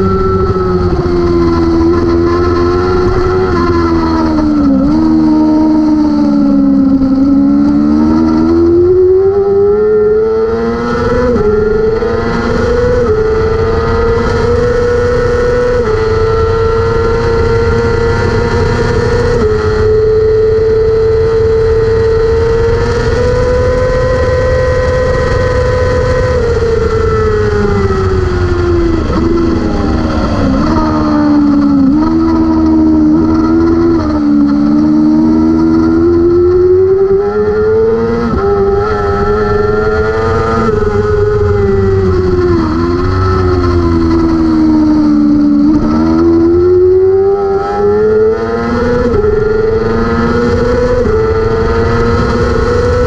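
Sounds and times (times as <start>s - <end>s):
motorcycle engine revving high: 0.0s - 53.0s.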